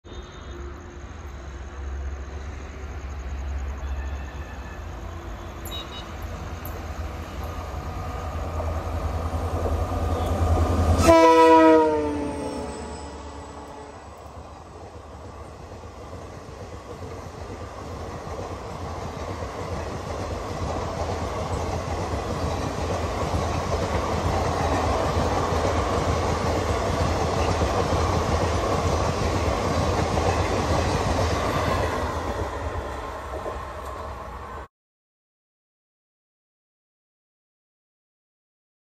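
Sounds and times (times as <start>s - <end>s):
train wheels on rails: 0.4s - 34.7s.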